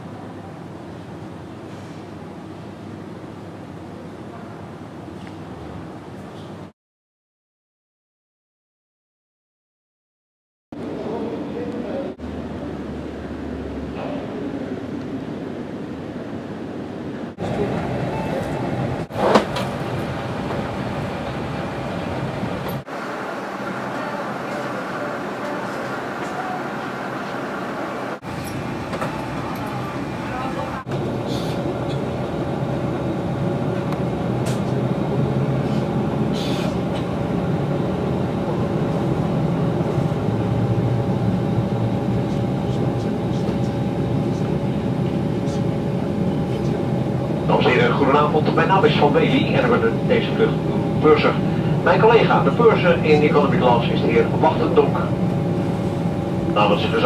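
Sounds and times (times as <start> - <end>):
air conditioning: 0.0 - 6.7, 10.8 - 57.0
airplane cabin noise: 10.8 - 57.0
faint steady whine: 10.8 - 57.0.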